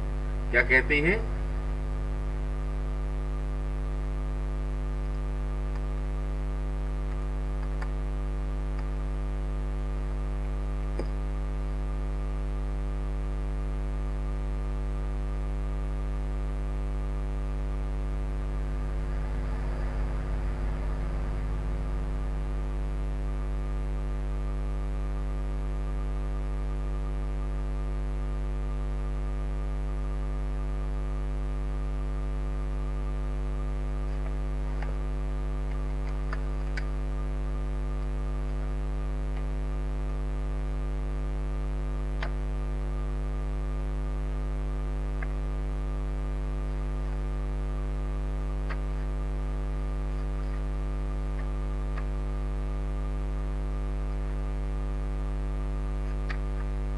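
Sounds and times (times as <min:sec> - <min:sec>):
electrical mains hum: 0:00.0 - 0:56.9.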